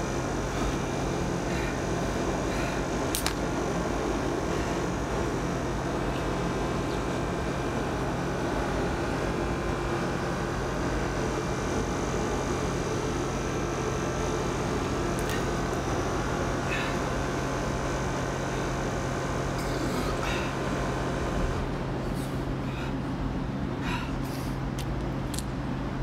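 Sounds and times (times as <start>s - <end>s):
droning mechanical hum with hiss: 0.0s - 26.0s.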